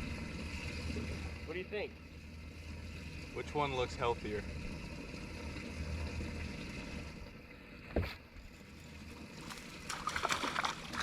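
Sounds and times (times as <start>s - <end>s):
low rumble of boat: 0.0s - 11.0s
wind: 0.0s - 11.0s.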